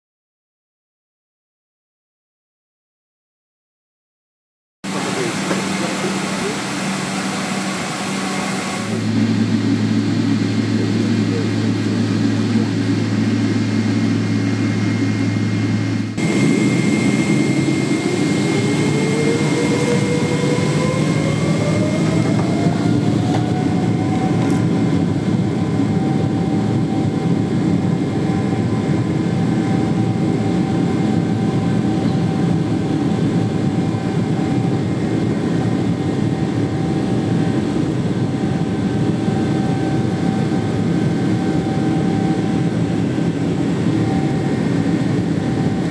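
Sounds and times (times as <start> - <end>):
jet engines spooling up: 4.9 - 45.9.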